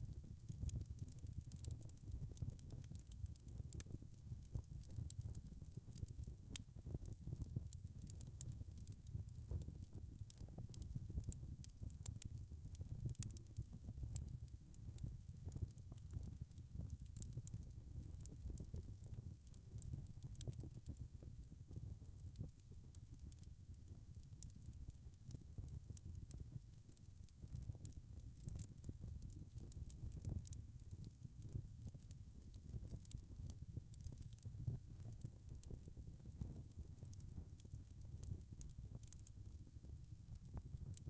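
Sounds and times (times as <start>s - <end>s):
wood fire crackling: 0.1s - 41.0s.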